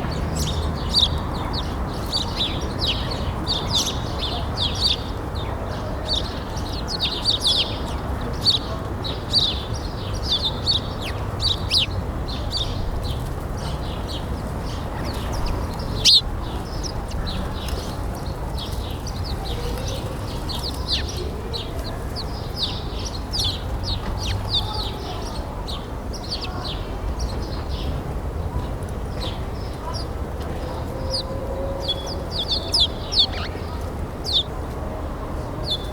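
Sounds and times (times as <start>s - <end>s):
low background rumble: 0.0s - 29.0s
small birds chirping: 0.0s - 34.8s, 35.4s - 35.9s.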